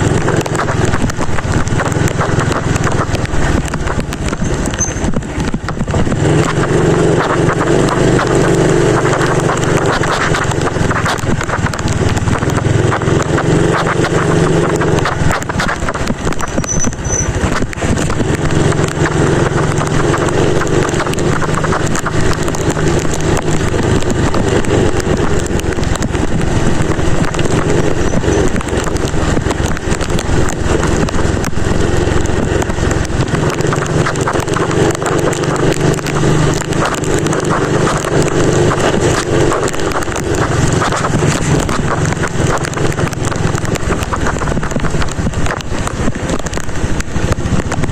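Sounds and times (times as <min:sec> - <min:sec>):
motorcycle engine and road hum: 0:00.0 - 0:47.9
raindrops tapping microphone: 0:00.0 - 0:47.9
rushing wind and rain: 0:00.0 - 0:47.9.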